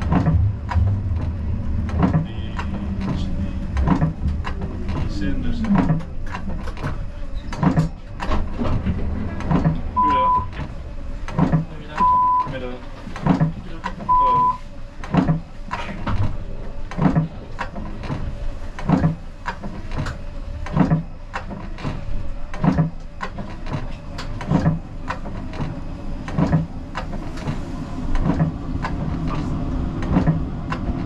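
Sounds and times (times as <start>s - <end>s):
tram running noise: 0.0s - 31.0s.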